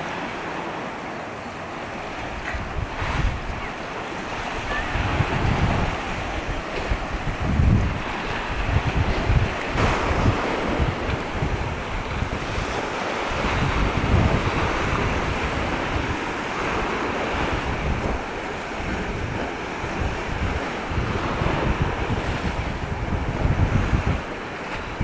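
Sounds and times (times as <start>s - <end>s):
rushing wind and sea: 0.0s - 25.0s
wind buffeting microphone: 0.0s - 25.0s.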